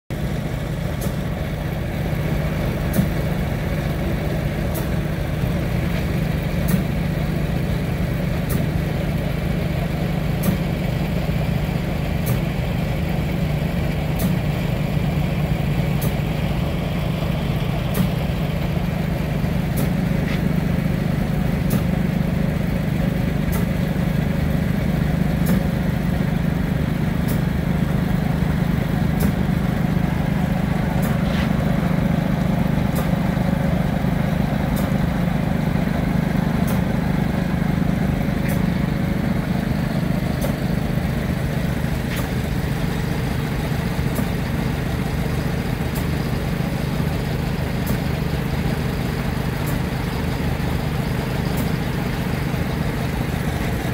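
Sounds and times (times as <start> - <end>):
engine-driven pump running: 0.1 - 53.9.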